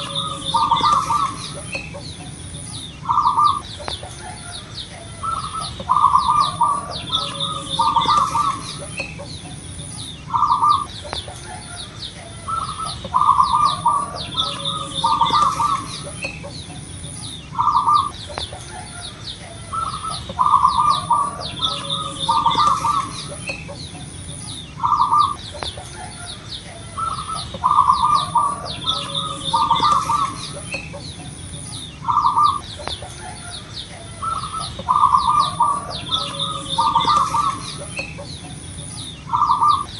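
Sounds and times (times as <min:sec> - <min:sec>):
dove cooing: 0:00.0 - 0:39.9
high-pitched bird chirping: 0:00.0 - 0:39.9.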